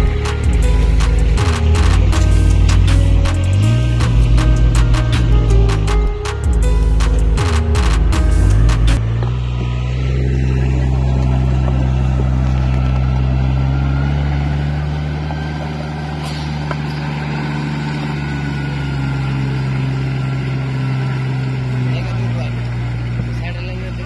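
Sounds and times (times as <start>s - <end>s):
transplanter engine running steadily: 0.0s - 24.0s.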